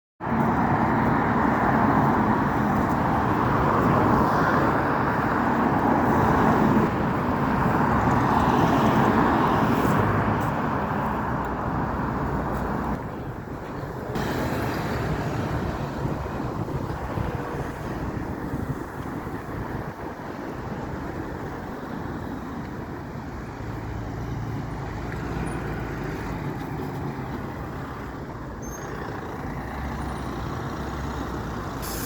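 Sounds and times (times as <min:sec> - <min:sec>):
vehicles driving past: 0:00.2 - 0:32.0.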